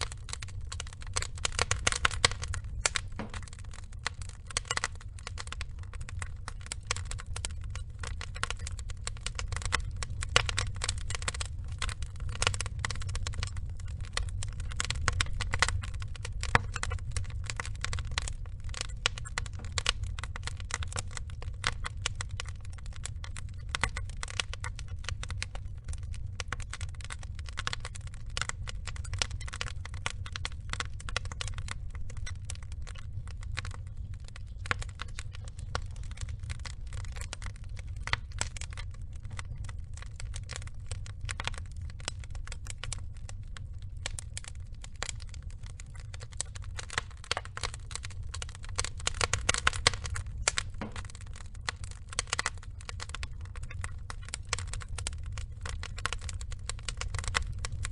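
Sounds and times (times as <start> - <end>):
burning logs crackling: 0.0 - 57.9
low steady rumble: 0.0 - 57.9.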